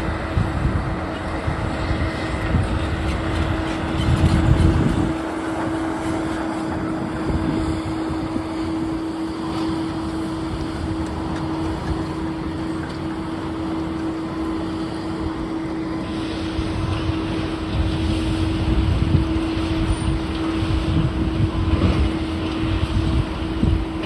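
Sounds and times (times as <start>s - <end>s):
excavator engine droning: 0.0s - 24.0s.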